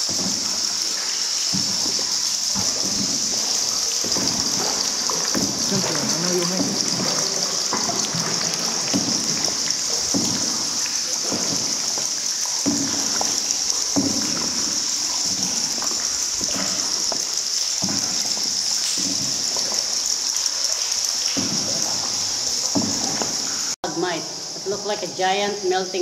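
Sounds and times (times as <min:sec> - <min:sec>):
water splashing from paddles: 0:00.0 - 0:24.8
high-pitched hiss: 0:00.0 - 0:26.0.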